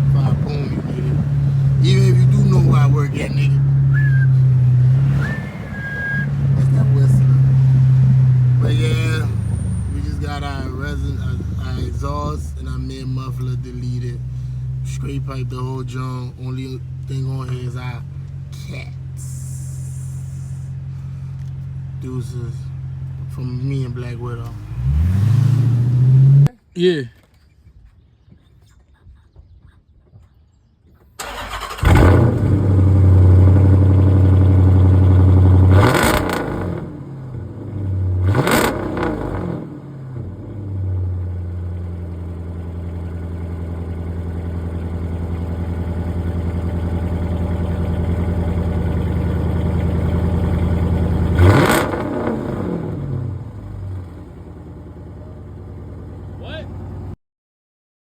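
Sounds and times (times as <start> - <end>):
loud car engine revving: 0.0 - 26.5, 31.3 - 55.2.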